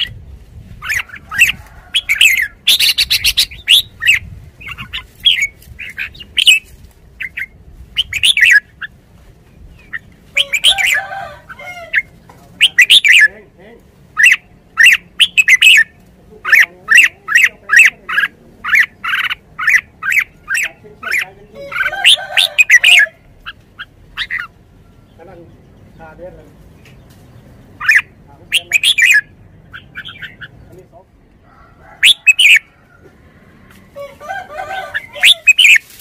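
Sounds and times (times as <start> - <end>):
bird chirping: 0.0 - 13.4, 14.1 - 32.7, 34.8 - 36.0.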